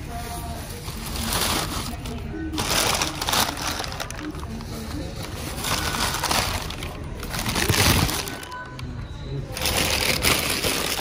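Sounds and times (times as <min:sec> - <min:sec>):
paper bags rustling and crinkling: 0:00.0 - 0:08.9, 0:09.5 - 0:11.0.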